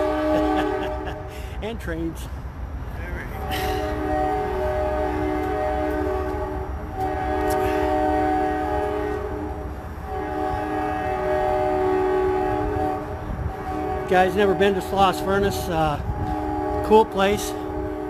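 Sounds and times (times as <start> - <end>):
train air horn chord: 0.0 - 1.4, 3.3 - 18.0.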